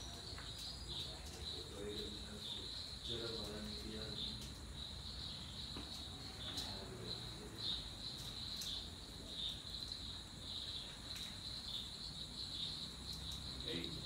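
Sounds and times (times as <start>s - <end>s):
high-pitched insect trilling: 0.0s - 14.0s.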